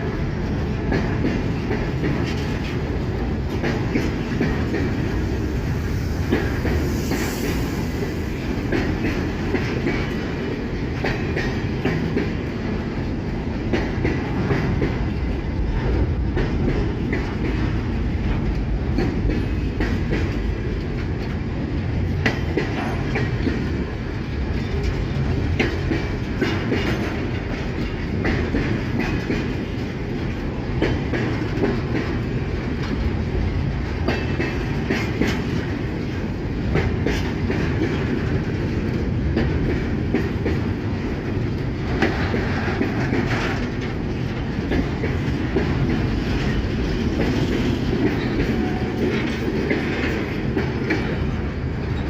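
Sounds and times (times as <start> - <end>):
freight train rumbling past: 0.0 - 52.0
wheels clattering over rail joints: 8.6 - 52.0.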